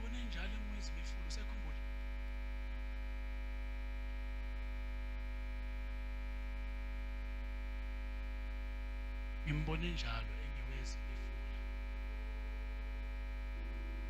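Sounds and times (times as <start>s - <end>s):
electrical mains hum: 0.0s - 14.0s
high steady buzzing tones: 0.0s - 14.0s.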